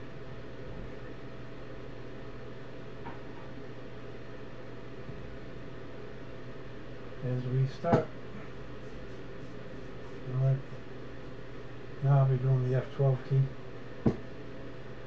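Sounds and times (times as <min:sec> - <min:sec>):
room tone hum and hiss: 0:00.0 - 0:15.0.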